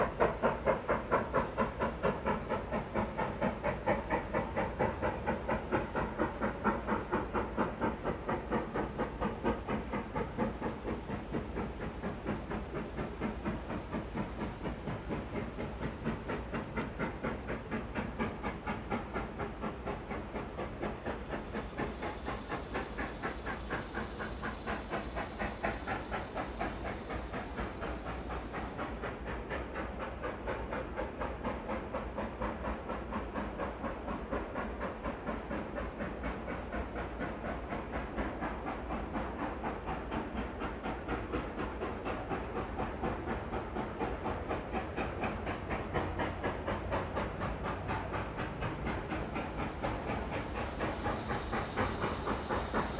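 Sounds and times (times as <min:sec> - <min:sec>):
high steam hiss: 0:00.0 - 0:52.9
steam locomotive exhaust chuffs: 0:00.0 - 0:52.9.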